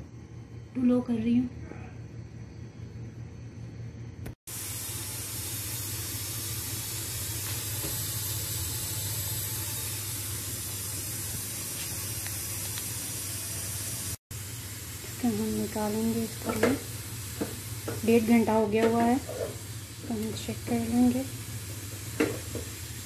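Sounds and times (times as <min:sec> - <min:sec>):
steady hiss from cooking pot: 0:04.5 - 0:23.0.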